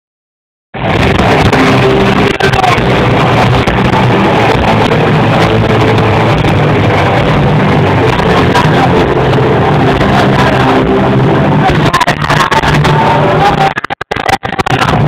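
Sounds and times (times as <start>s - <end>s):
distorted live concert music: 0.8s - 15.0s.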